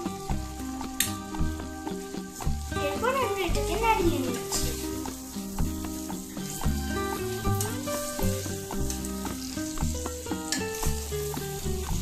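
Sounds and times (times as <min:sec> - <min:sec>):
background music: 0:00.0 - 0:12.0
vegetables sizzling in a pan: 0:00.0 - 0:12.0.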